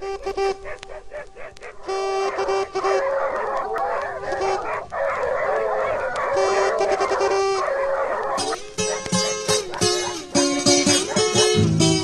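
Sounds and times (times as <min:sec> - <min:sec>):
dog barking: 0:00.0 - 0:11.6.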